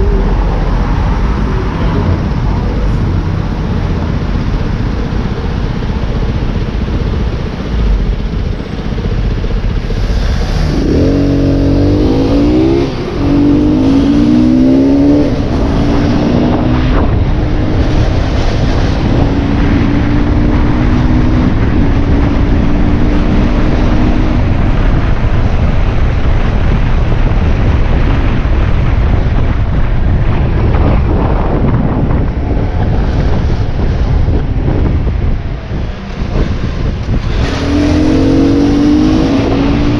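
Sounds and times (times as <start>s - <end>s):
motorbike engine accelerating: 0.0s - 39.9s
wind on microphone: 0.0s - 39.9s.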